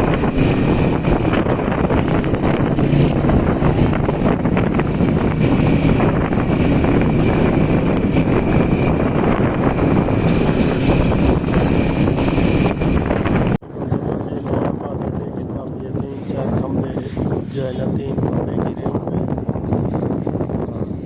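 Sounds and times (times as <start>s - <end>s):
storm wind buffeting microphone: 0.0s - 21.0s.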